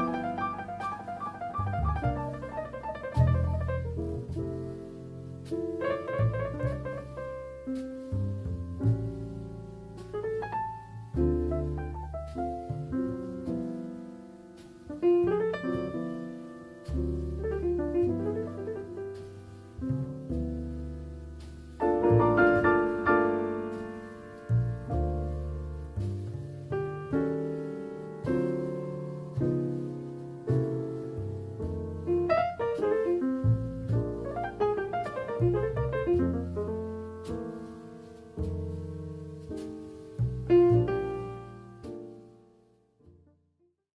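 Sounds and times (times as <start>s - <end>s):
piano music: 0.0s - 43.5s.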